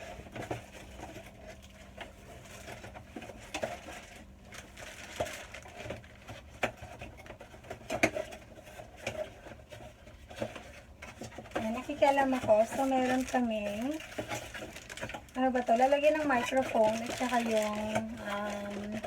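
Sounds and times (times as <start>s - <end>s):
packaging rustling and clicking: 0.1s - 19.0s.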